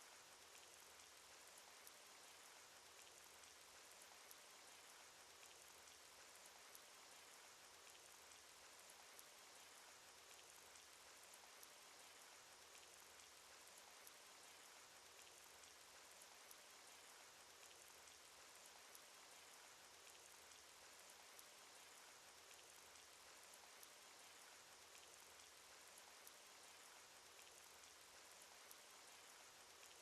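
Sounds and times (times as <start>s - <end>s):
faint rain patter: 0.0s - 30.0s
raindrop ticks: 0.1s - 30.0s.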